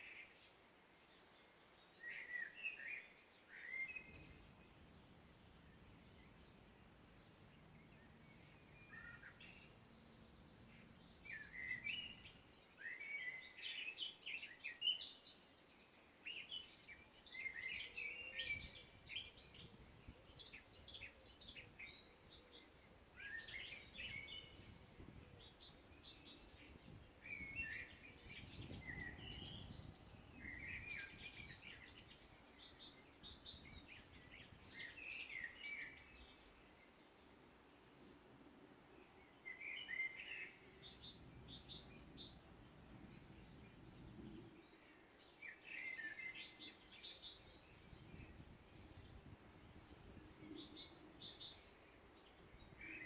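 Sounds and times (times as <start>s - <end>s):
songbirds twittering: 0.0s - 53.0s.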